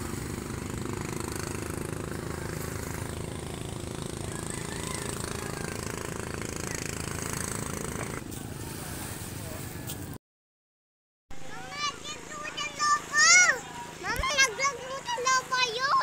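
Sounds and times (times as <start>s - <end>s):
small boat engine humming: 0.0s - 10.2s, 11.4s - 16.0s.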